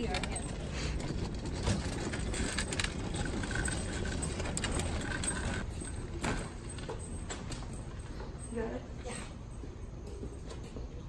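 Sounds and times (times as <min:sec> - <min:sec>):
stretcher rolling over concrete: 0:00.0 - 0:08.9
metal frame rattling and jingling: 0:00.0 - 0:10.8.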